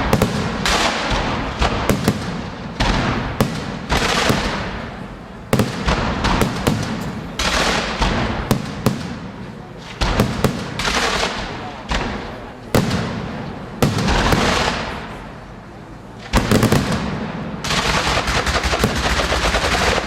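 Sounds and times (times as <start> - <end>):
crackling hiss of fireworks: 0.0 - 20.0
fireworks bangs: 0.0 - 20.0.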